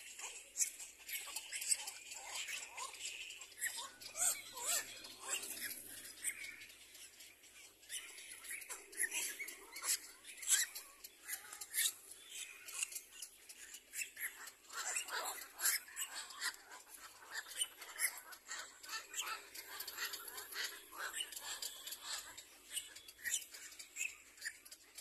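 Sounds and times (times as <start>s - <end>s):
chicks squeaking: 0.0s - 25.0s
drawn-out bird calls: 0.0s - 25.0s.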